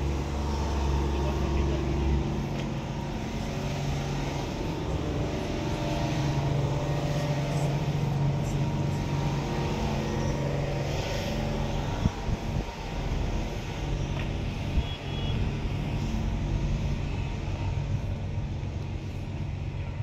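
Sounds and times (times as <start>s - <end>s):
truck engines idling: 0.0s - 20.0s.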